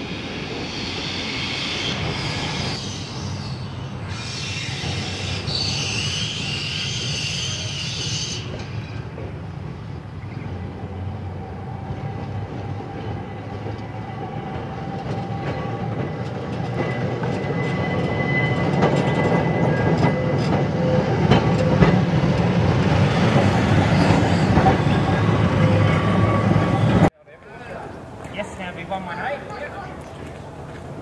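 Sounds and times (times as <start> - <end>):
electric tram whine: 0.0 - 27.1.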